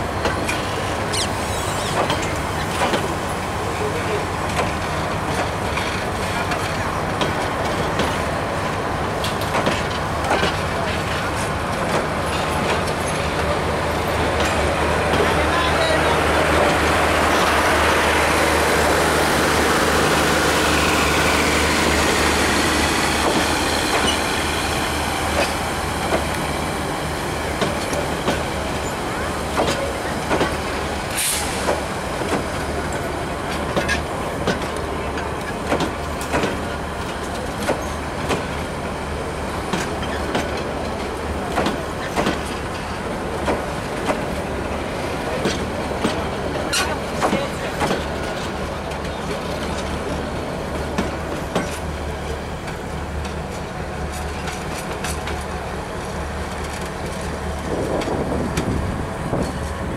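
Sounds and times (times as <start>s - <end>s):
train coaches rumbling: 0.0s - 59.9s
wheels clacking over rail joints: 0.0s - 59.9s.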